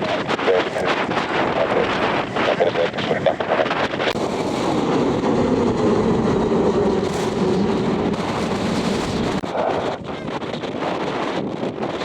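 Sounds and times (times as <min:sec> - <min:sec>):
aircraft engines rumbling: 0:00.0 - 0:12.0
wind buffeting microphone: 0:00.0 - 0:12.0.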